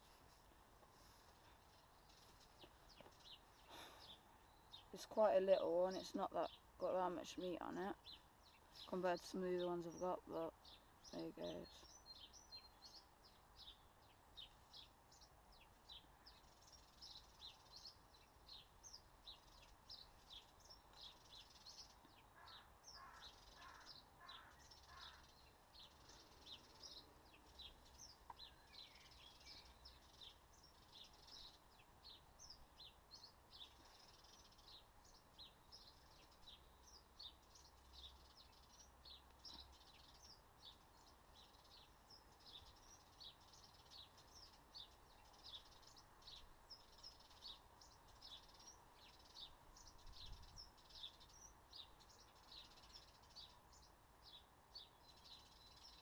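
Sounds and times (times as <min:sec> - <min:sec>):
lower bird calls: 0:00.0 - 0:56.0
small birds chirping: 0:00.0 - 0:56.0.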